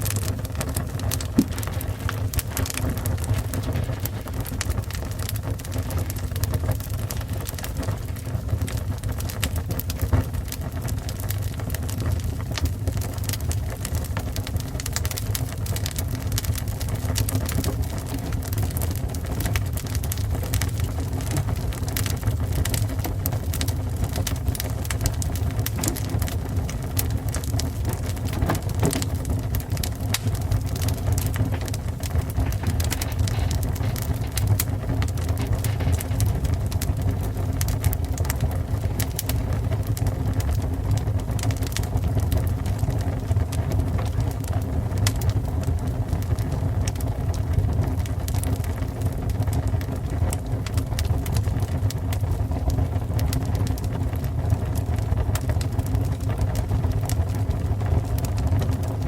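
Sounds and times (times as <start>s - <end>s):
fire burning with crackles: 0.0s - 59.0s.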